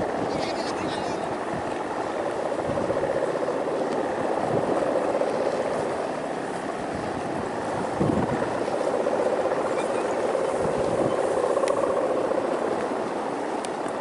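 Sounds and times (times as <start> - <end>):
kite hummer droning buzz: 0.0 - 14.0
wind noise: 0.0 - 14.0.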